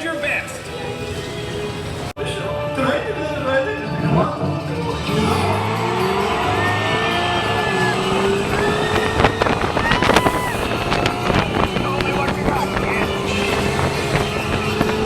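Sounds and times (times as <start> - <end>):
car engine rising: 0.0 - 2.2, 4.4 - 15.0
ride vehicle rumble: 0.0 - 2.2, 4.6 - 15.0
music: 0.0 - 15.0.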